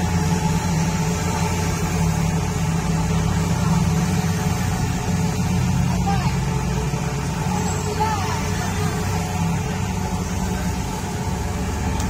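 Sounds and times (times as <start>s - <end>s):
heavy vehicle engine drone: 0.0s - 12.0s
road noise: 0.0s - 12.0s.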